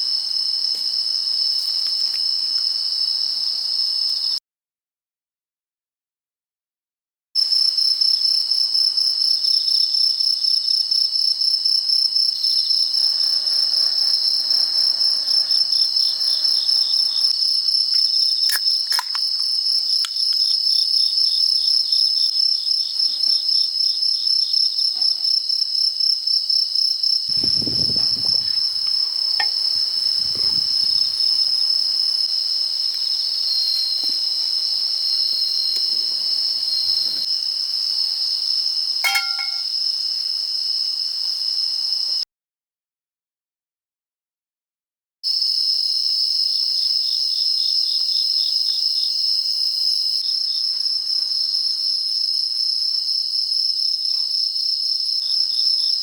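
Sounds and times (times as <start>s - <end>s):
crickets chirping: 0.0s - 4.4s, 7.4s - 42.2s, 45.3s - 56.0s.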